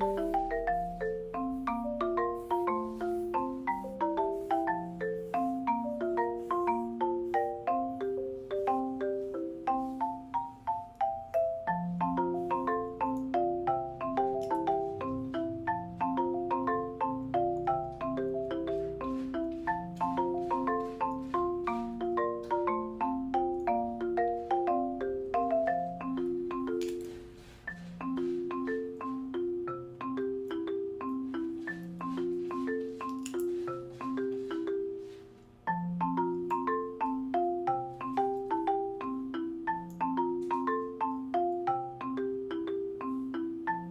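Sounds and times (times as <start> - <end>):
bouncy mallet percussion melody: 0.0 - 43.9.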